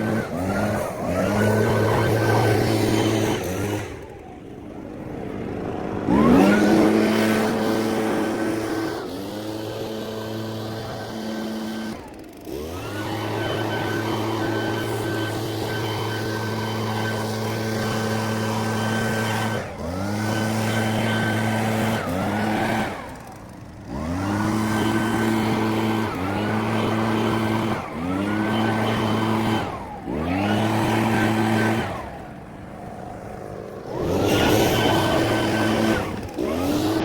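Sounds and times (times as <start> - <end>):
small gasoline engine revving: 0.0 - 37.0.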